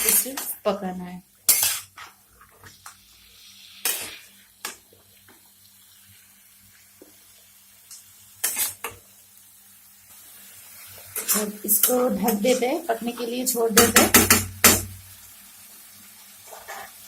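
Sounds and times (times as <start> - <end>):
faint sizzle of oil: 0.0 - 17.0.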